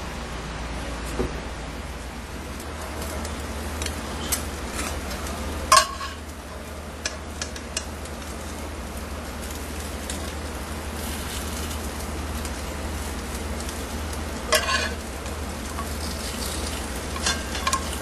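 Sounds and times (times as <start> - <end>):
steady simmering hiss: 0.0 - 18.0.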